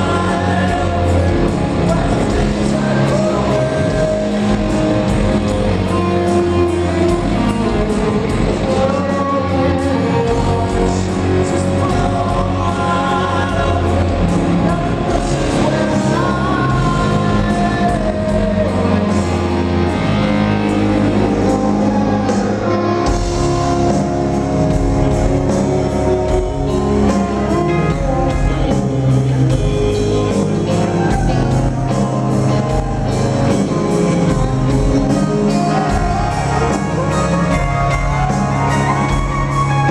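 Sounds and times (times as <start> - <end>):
person singing: 0.0 - 20.0, 25.4 - 39.9
live rock band playing: 0.0 - 39.9.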